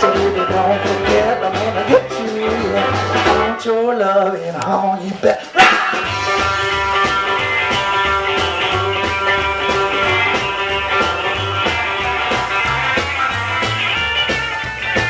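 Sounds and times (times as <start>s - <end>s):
steady drum beat: 0.0s - 3.6s, 4.6s - 15.0s
bass line: 0.0s - 3.9s, 4.6s - 15.0s
electric guitar: 0.0s - 15.0s.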